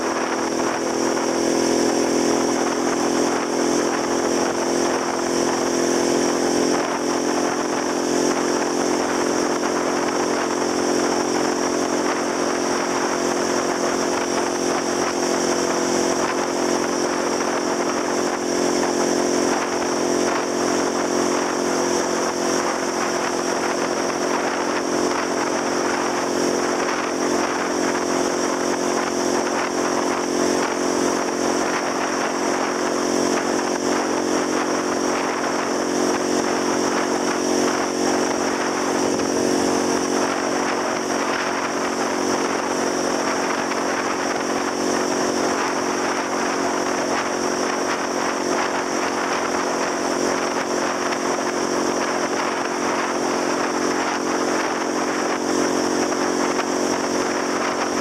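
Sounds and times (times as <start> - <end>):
scooter engine running: 0.0 - 58.0
wind and road noise: 0.0 - 58.0.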